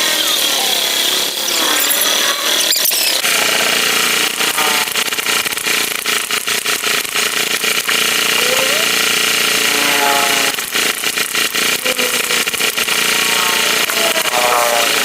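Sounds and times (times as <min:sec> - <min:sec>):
electric carving tool cutting wood: 0:00.0 - 0:15.0.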